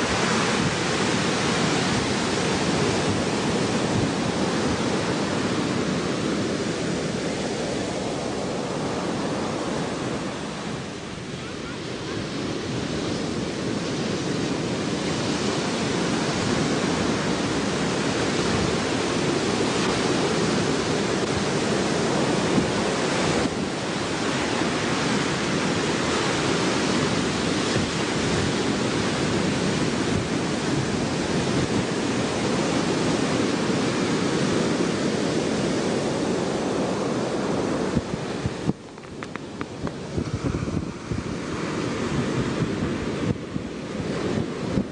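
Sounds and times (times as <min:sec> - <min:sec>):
ocean surf rushing: 0:00.0 - 0:44.9
wind buffeting microphone: 0:00.0 - 0:44.9.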